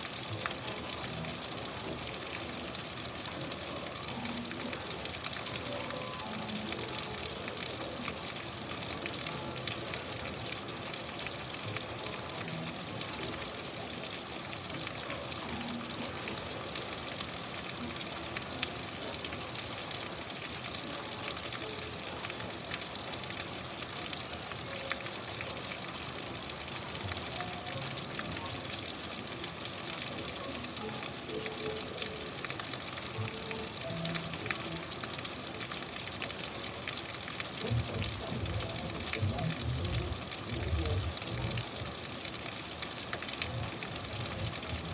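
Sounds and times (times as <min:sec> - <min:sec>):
rain patter: 0:00.0 - 0:44.9.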